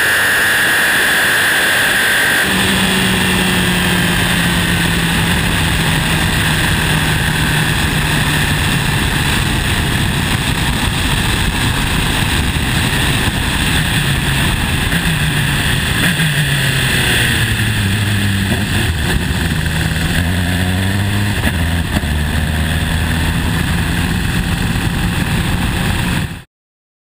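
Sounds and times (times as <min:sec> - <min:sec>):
wind noise: 0:00.0 - 0:26.4
race car engine at low revs: 0:00.0 - 0:26.5.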